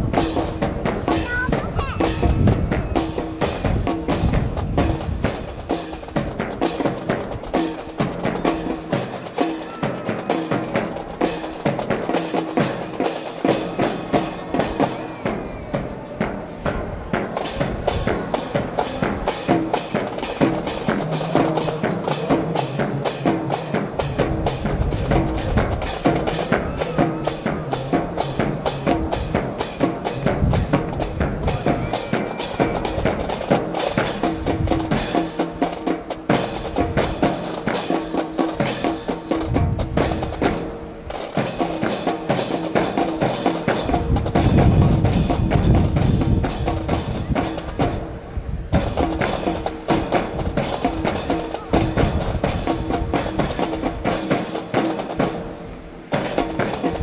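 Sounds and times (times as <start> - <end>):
music with steady drum beat: 0.0 - 57.0.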